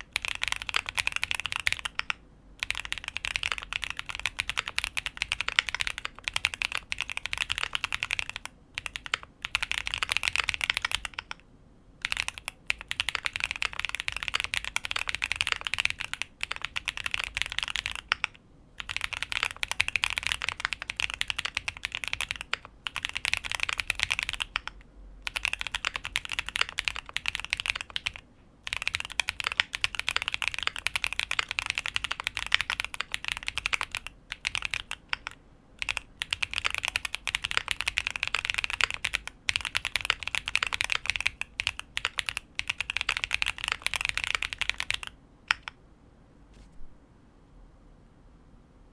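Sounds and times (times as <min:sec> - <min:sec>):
mechanical keyboard typing: 0:00.0 - 0:11.4, 0:12.0 - 0:45.8.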